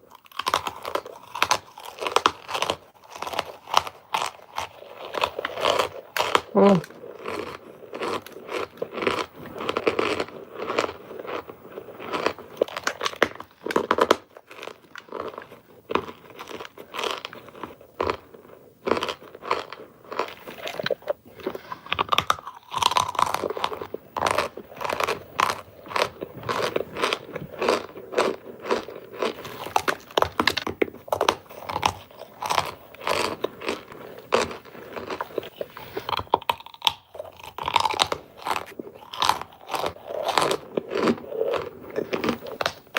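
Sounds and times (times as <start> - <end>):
crunching and chewing starch: 0.0 - 42.9.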